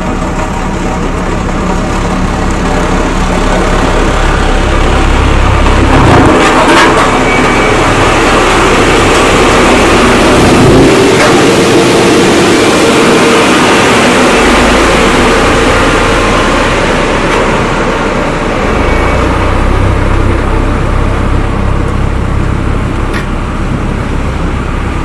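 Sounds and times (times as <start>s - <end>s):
heavy engines running: 0.0s - 25.0s
loud noisy burst: 0.0s - 25.0s.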